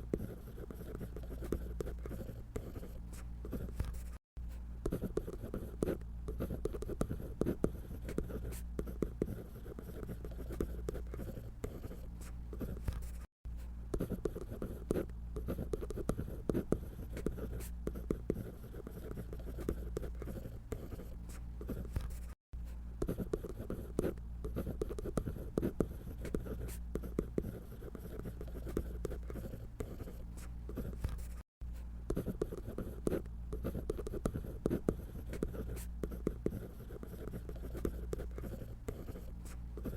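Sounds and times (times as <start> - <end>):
drawing tool scratching on paper: 0.0 - 4.2, 4.9 - 13.3, 14.0 - 22.4, 23.0 - 39.9.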